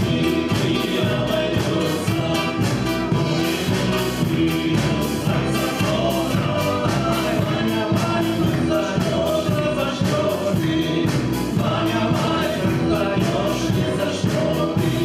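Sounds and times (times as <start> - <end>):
drum kit beat: 0.0 - 15.0
live band music: 0.0 - 15.0.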